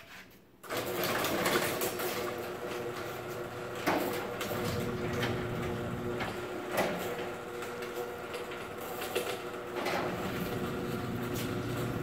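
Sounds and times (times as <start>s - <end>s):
garage door opener running: 0.6s - 12.0s.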